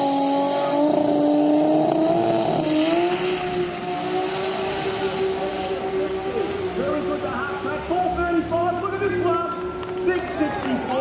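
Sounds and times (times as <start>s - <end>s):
race car engine accelerating: 0.0s - 10.4s.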